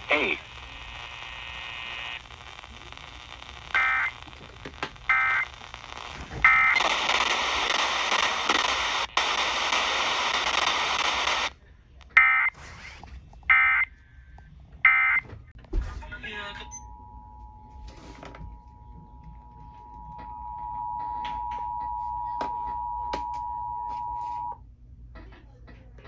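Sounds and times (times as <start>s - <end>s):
radio static hiss: 0.0s - 24.6s.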